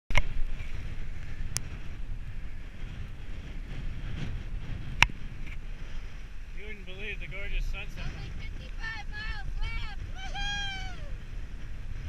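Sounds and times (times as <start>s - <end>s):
wind rushing over microphone: 0.1s - 12.0s.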